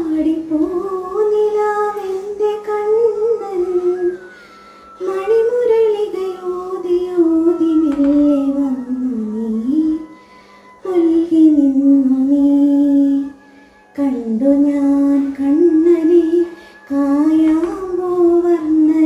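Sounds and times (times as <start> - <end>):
woman singing unaccompanied: 0.0 - 4.3, 5.0 - 10.2, 10.8 - 19.0.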